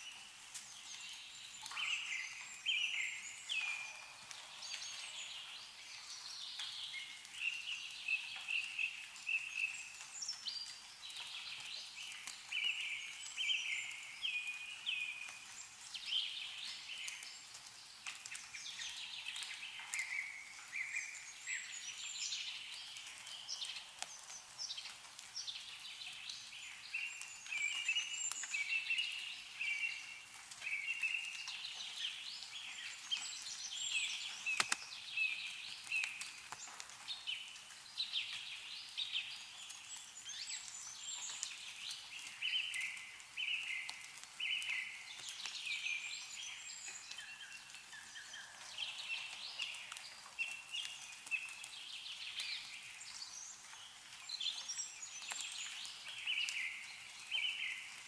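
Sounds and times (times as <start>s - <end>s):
meltwater dripping ticks: 0.0s - 58.0s
small songbirds chirping: 0.0s - 58.0s.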